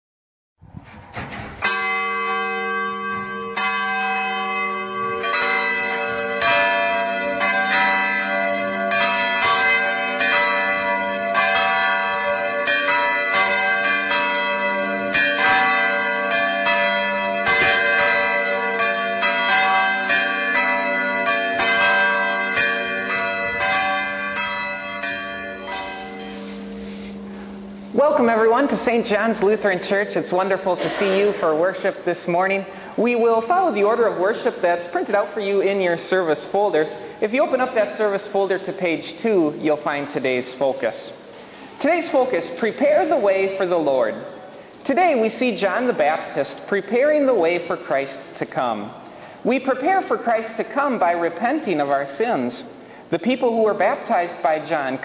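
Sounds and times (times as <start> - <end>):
church bells ringing: 1.6 - 55.0.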